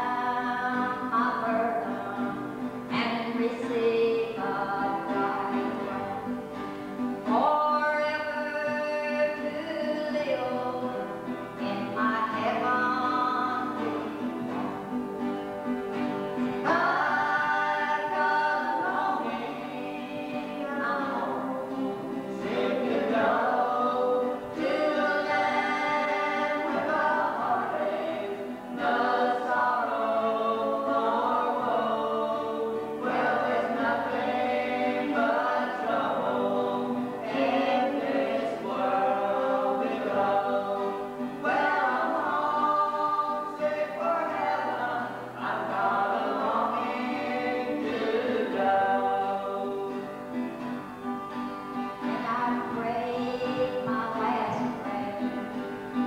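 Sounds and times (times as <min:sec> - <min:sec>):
woman singing gospel: 0:00.0 - 0:06.4, 0:07.2 - 0:14.3, 0:16.5 - 0:50.2, 0:52.0 - 0:55.9
acoustic guitars: 0:00.0 - 0:56.0.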